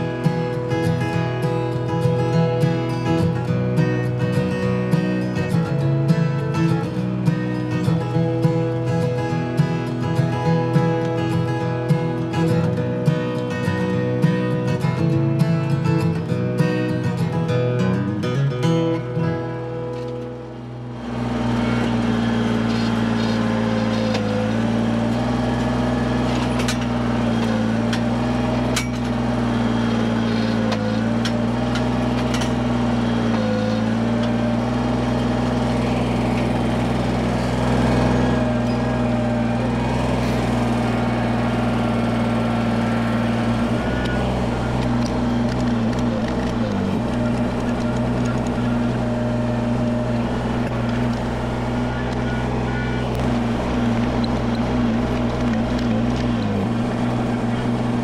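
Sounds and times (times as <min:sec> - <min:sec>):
heavy machine engine running: 0:00.0 - 0:58.0.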